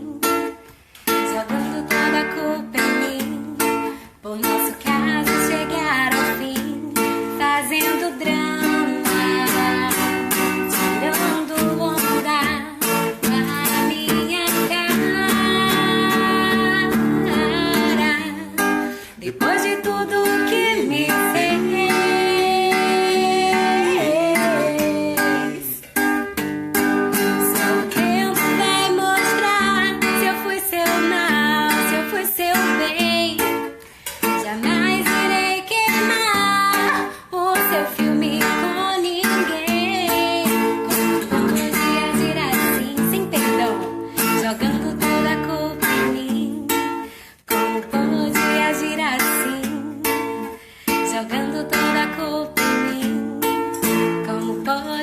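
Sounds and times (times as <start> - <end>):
woman singing: 0.0 - 26.2, 27.0 - 55.0
acoustic guitar: 0.0 - 55.0.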